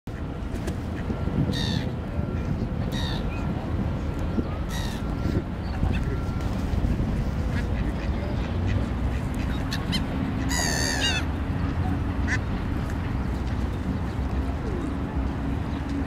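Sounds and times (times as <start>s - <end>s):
waterbirds calling: 0.1s - 15.9s.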